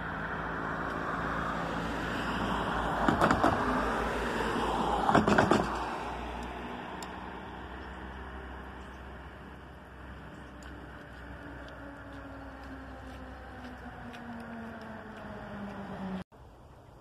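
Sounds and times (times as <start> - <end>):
car road noise: 0.0 - 16.3.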